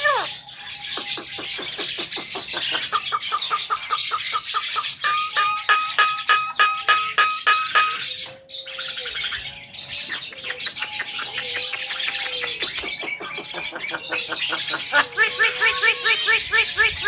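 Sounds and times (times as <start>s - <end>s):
high bird chirping: 0.0s - 17.0s
myna calling: 1.0s - 8.2s, 10.2s - 17.0s.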